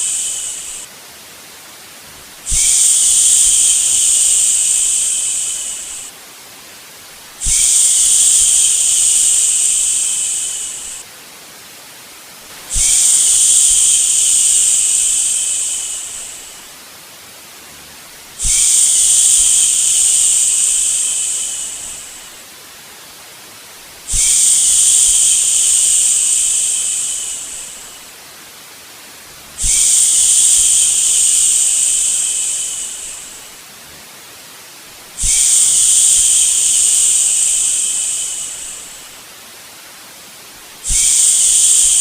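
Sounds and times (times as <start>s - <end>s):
white noise hiss: 0.0s - 42.0s.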